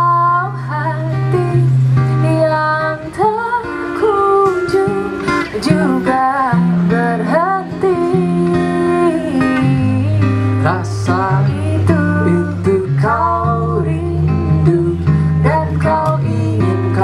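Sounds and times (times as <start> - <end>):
acoustic guitar: 0.0 - 17.0
woman singing: 0.0 - 17.0.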